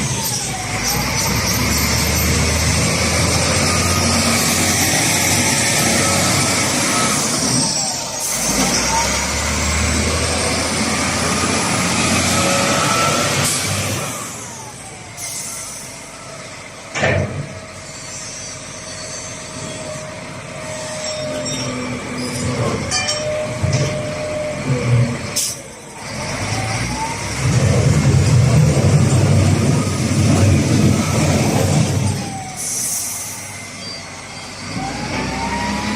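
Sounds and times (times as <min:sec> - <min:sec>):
loader diesel engine with whine: 0:00.0 - 0:35.9.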